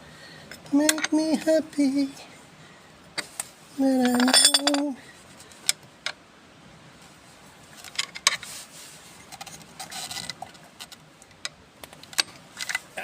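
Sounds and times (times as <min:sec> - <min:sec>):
rustle and rattle: 0:00.0 - 0:02.3, 0:03.1 - 0:13.0.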